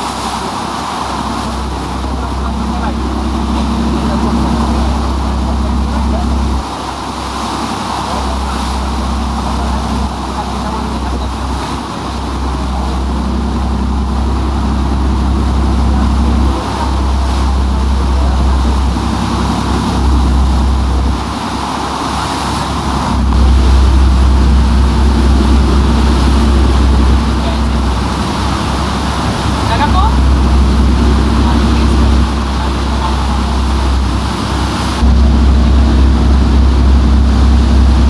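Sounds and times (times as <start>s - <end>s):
boat motor humming: 0.0s - 38.0s
deep rumble: 0.0s - 38.0s.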